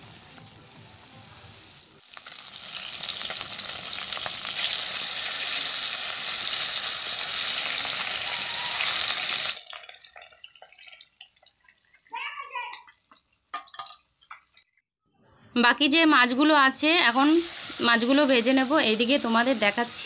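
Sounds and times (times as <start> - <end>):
fish sizzling in oil: 0.0 - 14.7, 17.0 - 20.0.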